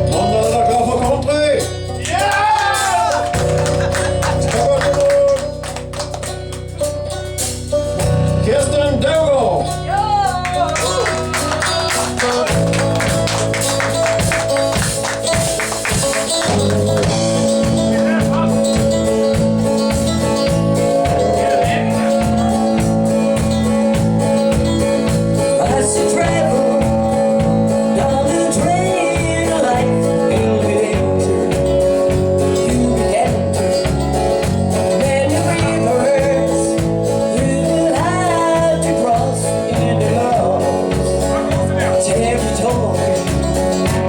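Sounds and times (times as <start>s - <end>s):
live country band playing: 0.0s - 44.0s.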